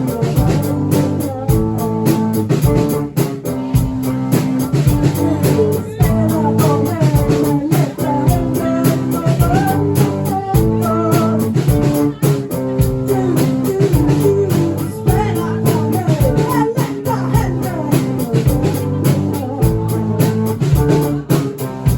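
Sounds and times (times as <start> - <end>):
drum kit beat: 0.0 - 21.9
guitar: 0.0 - 21.9.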